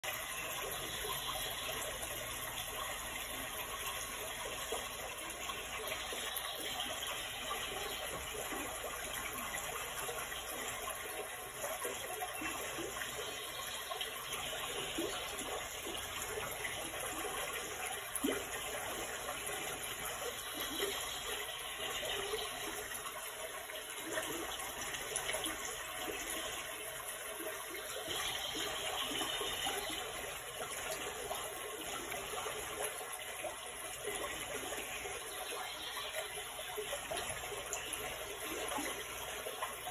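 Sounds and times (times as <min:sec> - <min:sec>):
running water rushing: 0:00.0 - 0:39.9
small ticks and splashes: 0:00.0 - 0:39.9.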